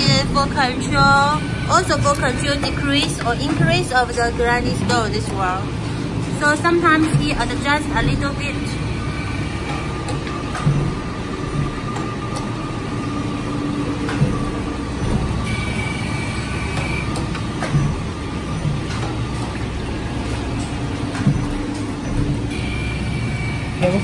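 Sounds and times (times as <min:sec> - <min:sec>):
grinding machine running: 0:00.0 - 0:24.0.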